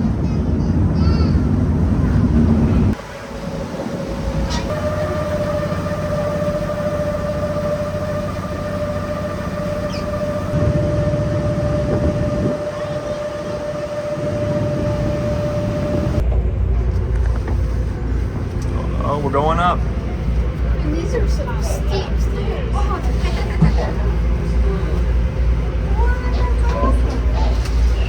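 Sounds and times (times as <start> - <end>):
ship machinery low rumble: 0.0 - 28.0
steady high whine: 2.9 - 28.0.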